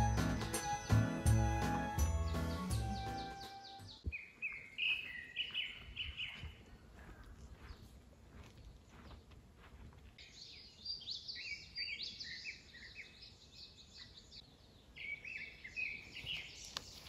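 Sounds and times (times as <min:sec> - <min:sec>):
songbird chirping and twittering: 0:00.0 - 0:17.0.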